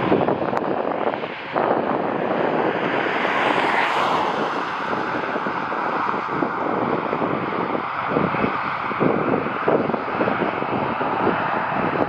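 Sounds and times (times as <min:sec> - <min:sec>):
jet airliner engines passing: 0:00.0 - 0:12.0.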